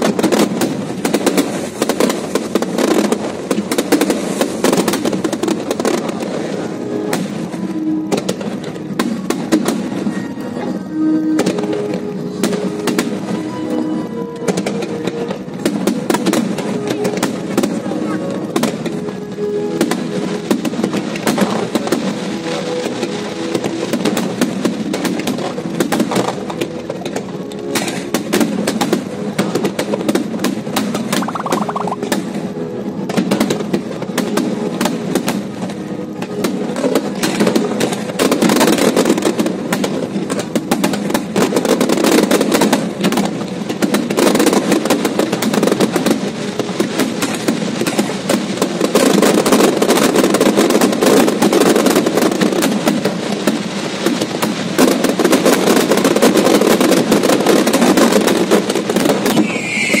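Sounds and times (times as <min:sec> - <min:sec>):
fireworks crackling and banging: 0:00.0 - 1:00.0.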